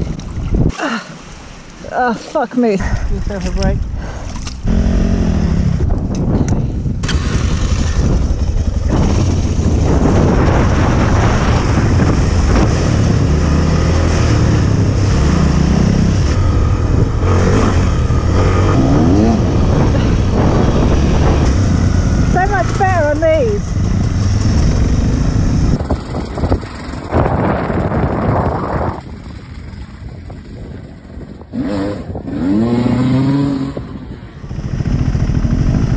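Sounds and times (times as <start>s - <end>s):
wind and spray rushing: 0.0s - 35.9s
motorcycle engine revving: 4.6s - 6.3s, 7.0s - 35.9s.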